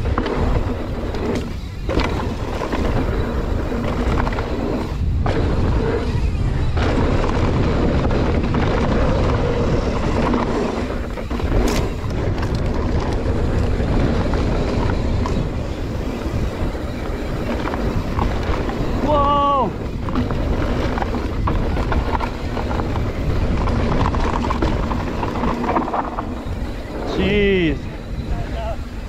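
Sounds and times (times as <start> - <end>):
bike rattling: 0.0 - 29.0
wind rushing over microphone: 0.0 - 29.0.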